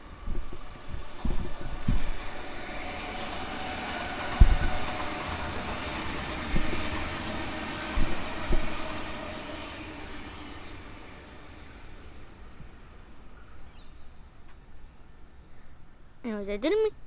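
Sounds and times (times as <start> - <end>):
electric train passing: 0.0 - 16.3.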